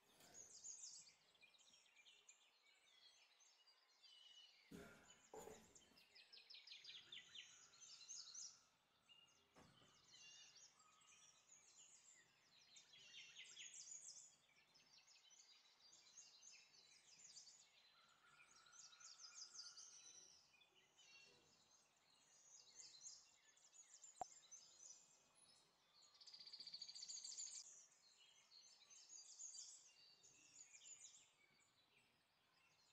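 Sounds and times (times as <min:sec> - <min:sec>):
faint birdsong chirps and trills: 0:00.0 - 0:32.9.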